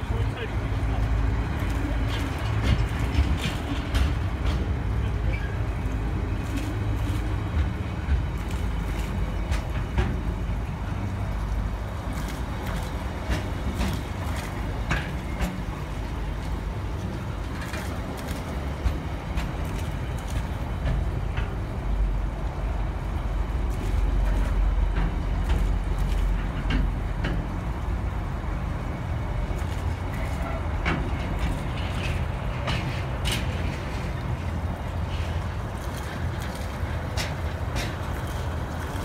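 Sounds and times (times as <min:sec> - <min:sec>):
freight train rumbling past: 0:00.0 - 0:39.0
wheels clicking on rails: 0:00.0 - 0:39.0.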